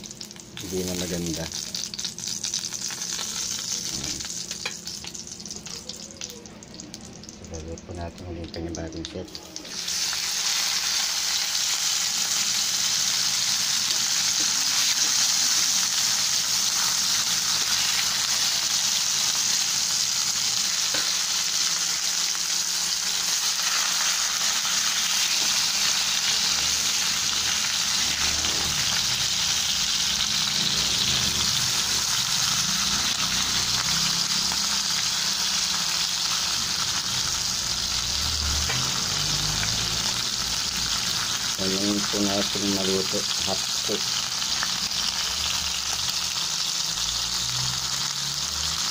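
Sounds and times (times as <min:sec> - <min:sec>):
meat sizzling in hot oil: 0:00.0 - 0:48.9.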